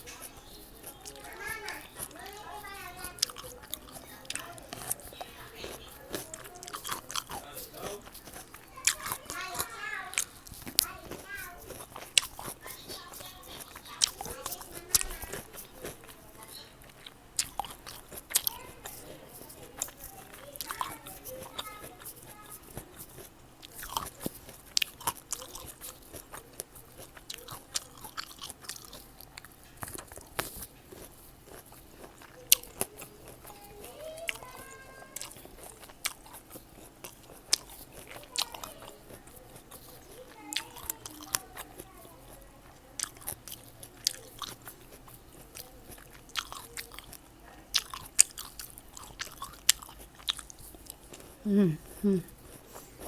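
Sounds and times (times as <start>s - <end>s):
fruit crunching chews: 0.0s - 53.0s.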